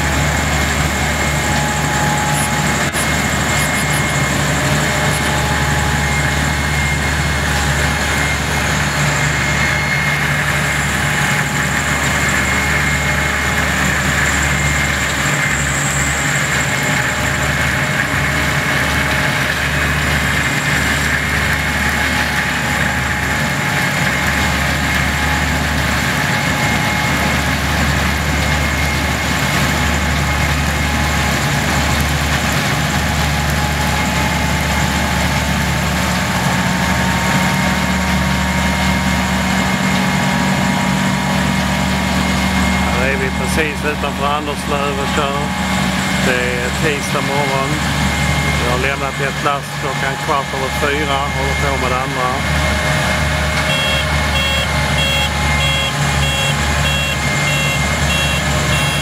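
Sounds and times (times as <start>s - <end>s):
diesel engine hum: 0.0s - 59.0s
thin machine whine: 0.0s - 59.0s.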